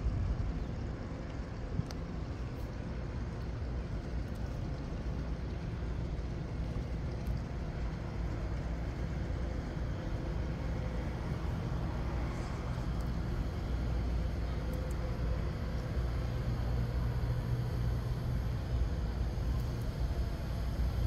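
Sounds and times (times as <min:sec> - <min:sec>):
low mechanical rumble: 0:00.0 - 0:21.0.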